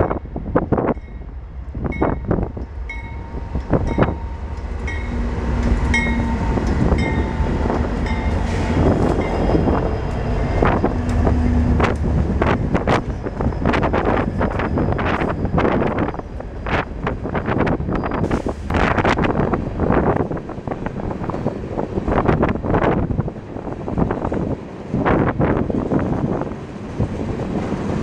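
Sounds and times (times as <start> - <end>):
diesel locomotives rumbling past: 0.0 - 28.0.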